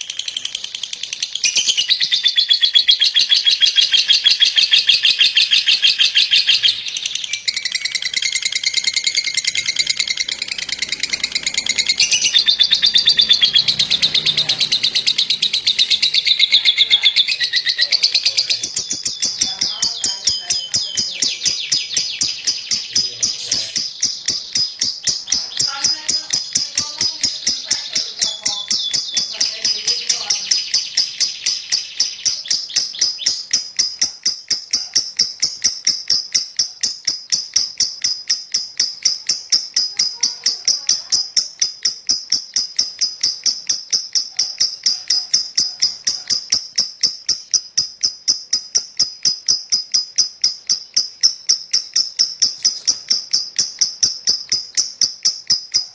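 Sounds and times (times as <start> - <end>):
bird rapid high chattering: 0.0 - 55.9.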